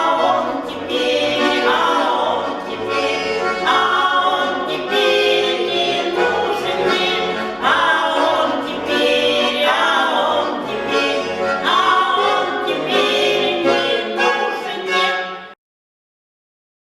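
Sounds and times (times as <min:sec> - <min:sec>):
instrumental accompaniment: 0:00.0 - 0:15.6
vocal ensemble singing in harmony: 0:00.0 - 0:15.6.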